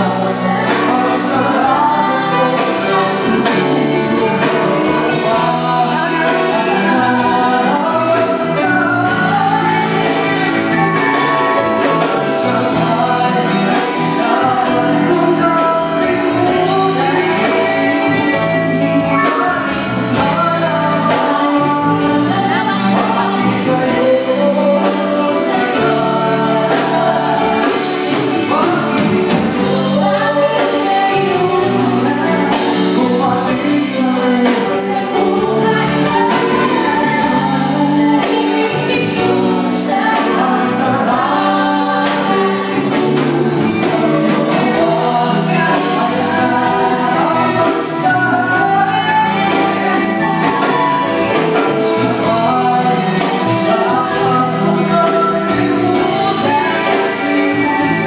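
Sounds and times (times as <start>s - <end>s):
drum kit with cymbals: 0.0s - 58.0s
electric guitar: 0.0s - 58.0s
keyboard: 0.0s - 58.0s
woman and man singing: 0.0s - 58.0s.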